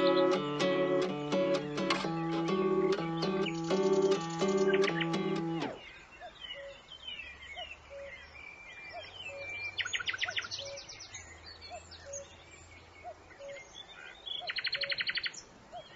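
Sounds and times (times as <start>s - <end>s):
songbirds chirping and whistling: 0.0s - 15.9s.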